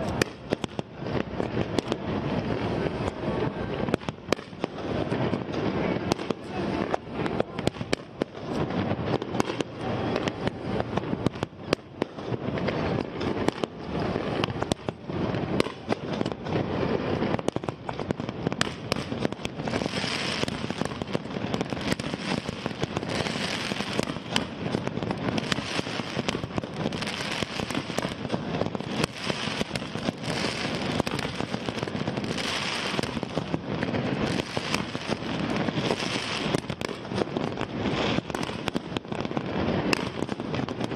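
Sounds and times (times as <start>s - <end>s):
crackling hiss of fireworks: 0.0s - 40.9s.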